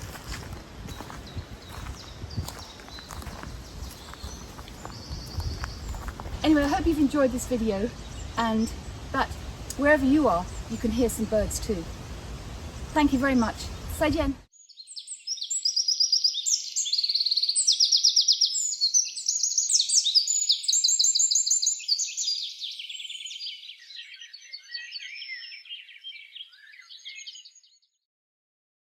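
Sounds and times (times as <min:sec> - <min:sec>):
songbirds singing trills: 0:00.0 - 0:28.0.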